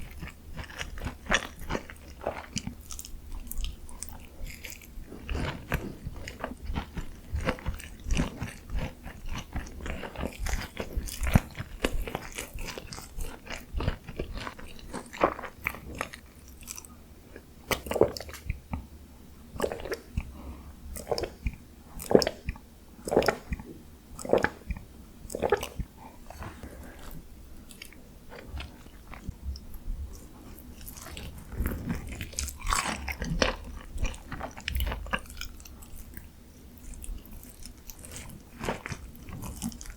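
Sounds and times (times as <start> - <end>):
crunchy chewing of fried chicken: 0.0 - 18.9, 19.5 - 39.9.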